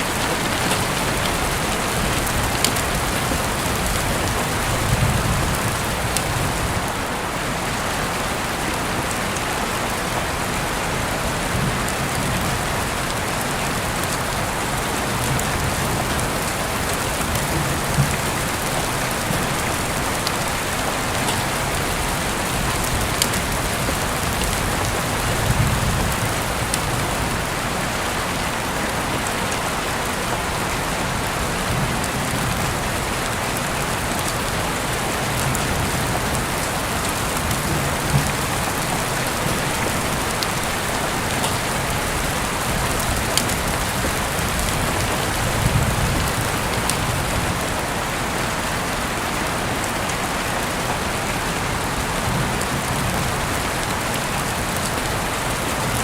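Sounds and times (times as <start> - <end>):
sharp ticks of raindrops: 0.0 - 48.8
steady rain hiss: 0.0 - 56.0.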